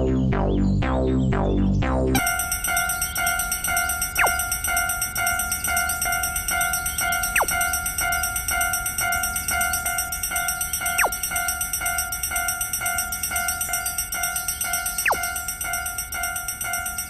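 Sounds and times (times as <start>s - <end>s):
level crossing alarm bell: 2.2s - 17.0s.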